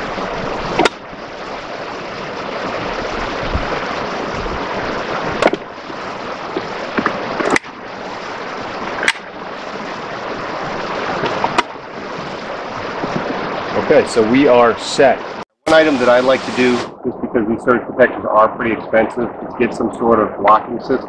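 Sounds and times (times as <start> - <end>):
creek rushing: 0.0 - 17.0.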